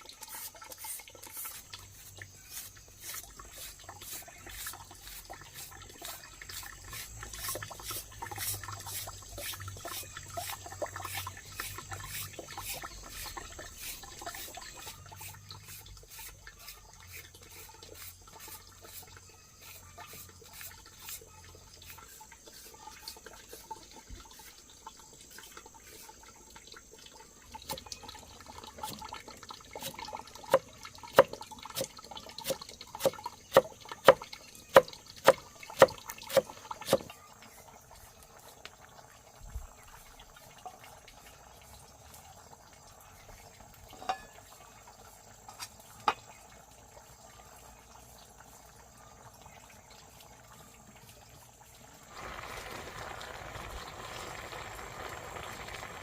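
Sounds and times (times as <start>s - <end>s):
water dripping and splashing: 0.0s - 56.0s.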